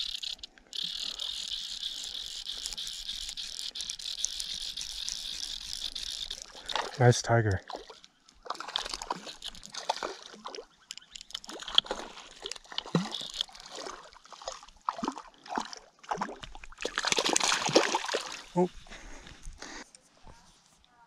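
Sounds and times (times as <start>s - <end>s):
splashing in shallow water: 0.0s - 19.2s.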